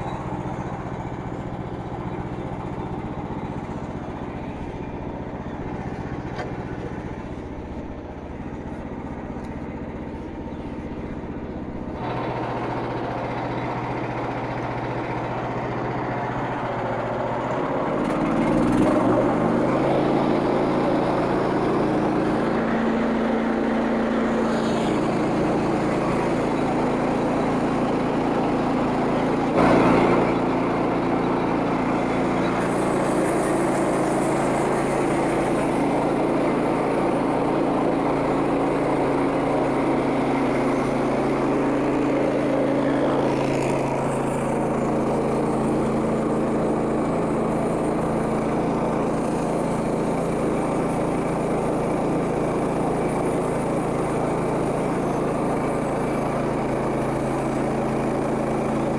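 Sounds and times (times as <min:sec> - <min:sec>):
band saw cutting log: 0:00.0 - 0:58.9
sawmill petrol engine running: 0:00.0 - 0:58.9.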